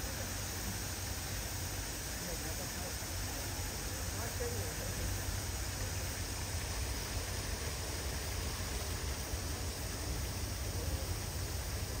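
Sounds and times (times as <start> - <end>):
even hiss: 0.0 - 12.0.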